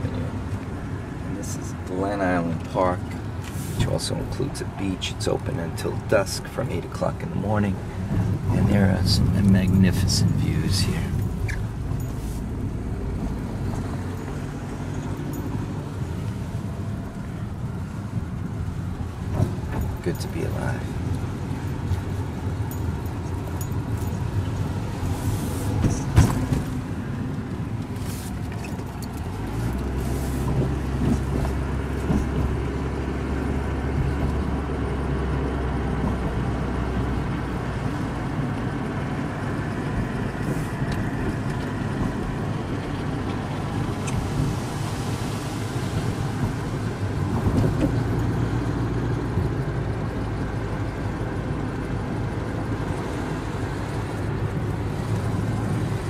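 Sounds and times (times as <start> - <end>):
car engine and road noise: 0.0 - 56.0
deeper engine drone: 2.5 - 56.0.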